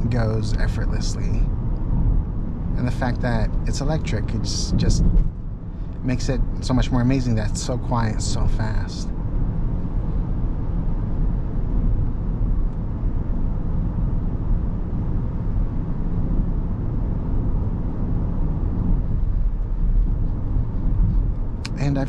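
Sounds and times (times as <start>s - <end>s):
road and tyre rumble: 0.0s - 22.0s.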